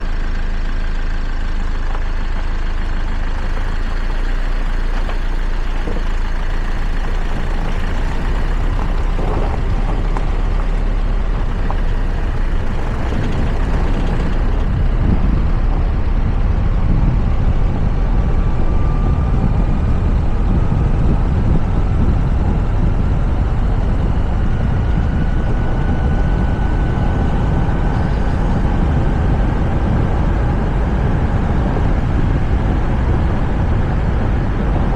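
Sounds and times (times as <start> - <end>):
road and wind noise: 0.0 - 34.9.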